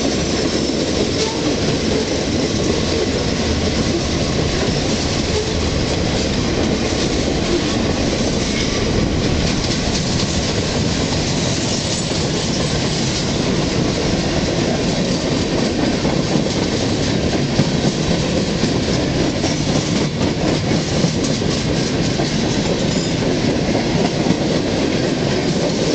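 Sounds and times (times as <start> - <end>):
freight train wheels rumbling: 0.0 - 25.9
wheels clacking over rail joints: 0.0 - 25.9.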